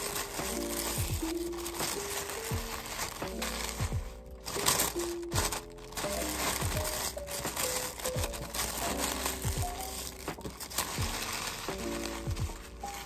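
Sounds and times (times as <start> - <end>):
light background music: 0.0 - 13.0
packaging crinkling and rustling: 0.0 - 13.0.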